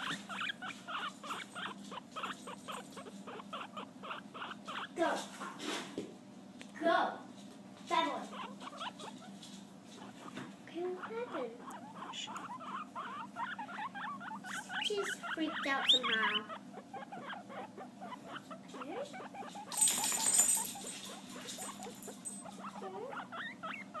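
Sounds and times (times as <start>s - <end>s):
guinea pigs squeaking: 0.0s - 5.7s, 7.9s - 24.0s.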